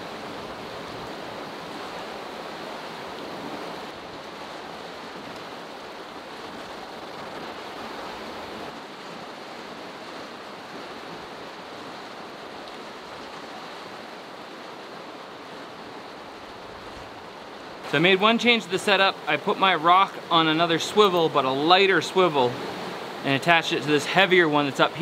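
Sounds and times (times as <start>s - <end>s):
fast river rushing: 0.0s - 25.0s.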